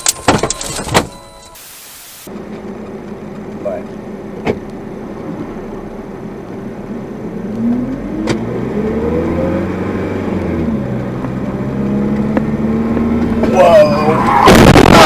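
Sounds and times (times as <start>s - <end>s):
car engine speeding up: 2.3s - 15.0s.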